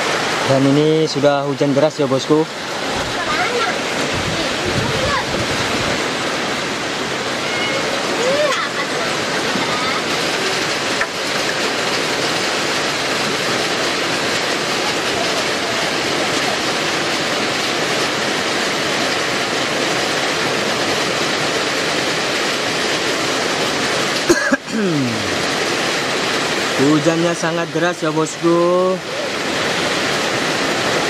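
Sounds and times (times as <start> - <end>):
heavy rain downpour: 0.0 - 31.0.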